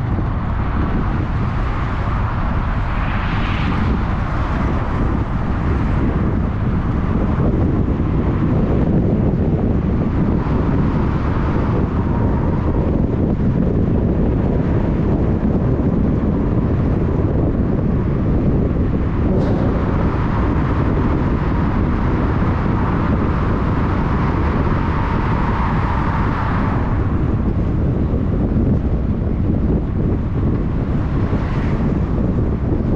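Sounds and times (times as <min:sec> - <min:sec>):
loud rumbling noise: 0:00.0 - 0:32.9.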